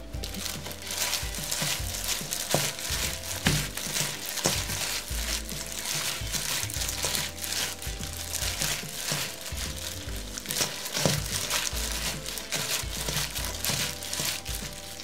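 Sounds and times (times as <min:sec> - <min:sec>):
plastic gloves crinkling: 0:00.0 - 0:15.0
wet rustle of bean sprouts: 0:00.2 - 0:15.0.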